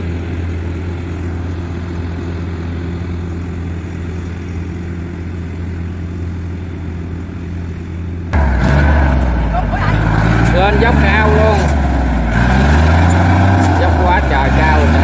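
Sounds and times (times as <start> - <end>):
combine harvester engines droning: 0.0 - 15.0.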